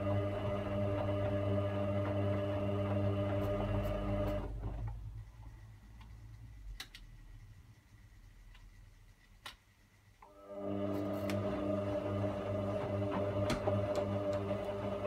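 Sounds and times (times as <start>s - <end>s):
washing machine motor hum: 0.0s - 9.0s, 10.3s - 15.0s.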